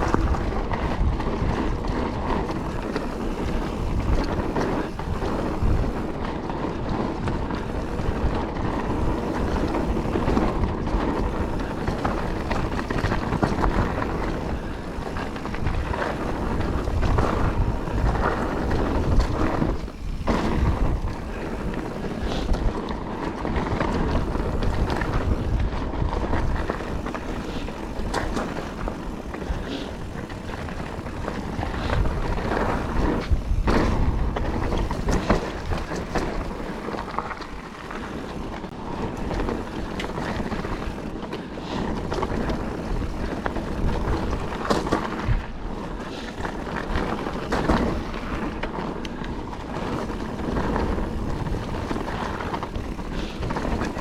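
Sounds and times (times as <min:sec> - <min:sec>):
bike rattling and knocking: 0:00.0 - 0:54.0
tyres crunching over gravel: 0:00.0 - 0:54.0
wind on microphone: 0:00.0 - 0:54.0.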